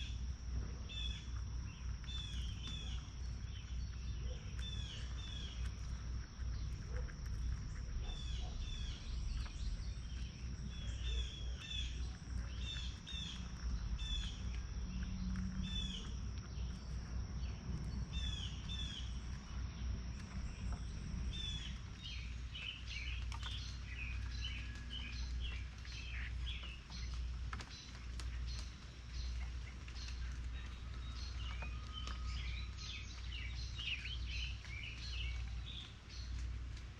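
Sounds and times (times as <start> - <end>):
songbirds chirping: 0.0 - 36.9
steady low rumble: 0.0 - 36.9.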